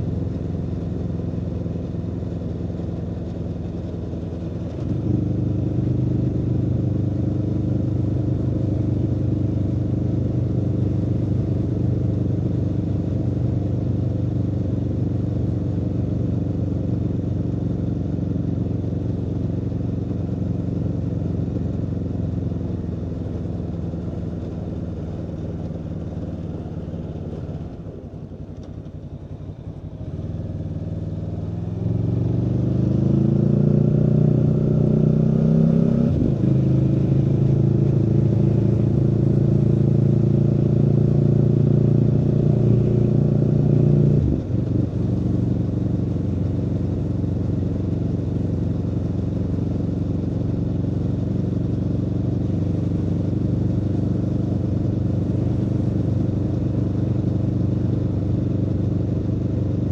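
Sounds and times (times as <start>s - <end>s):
motorcycle engine accelerating: 2.5s - 59.9s.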